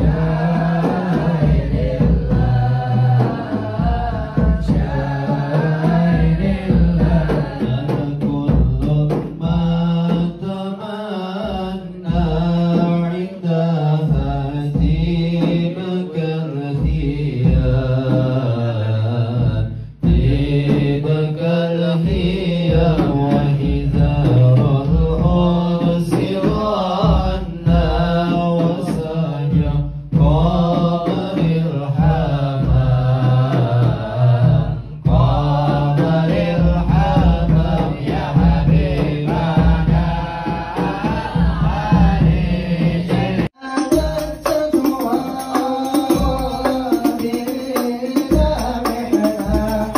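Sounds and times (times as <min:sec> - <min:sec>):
man singing devotional chant: 0:00.0 - 0:49.9.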